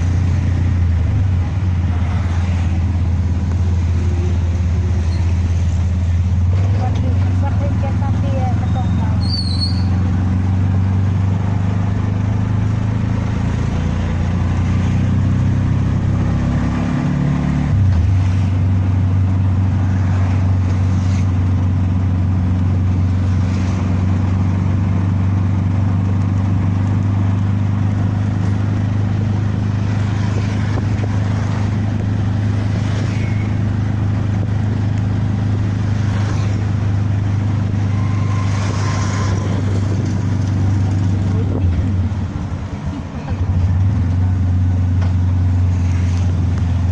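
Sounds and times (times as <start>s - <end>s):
vehicle engine droning: 0.0s - 46.9s.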